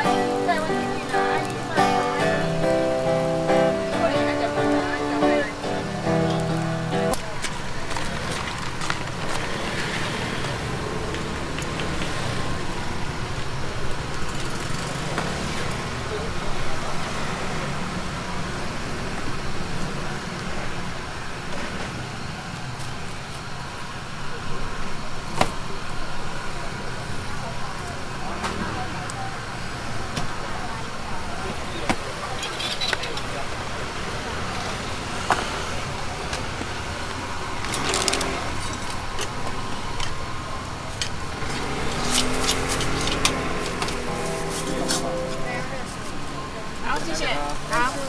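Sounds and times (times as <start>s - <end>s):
busy street market din: 0.0s - 48.0s
faint voices: 0.0s - 48.0s.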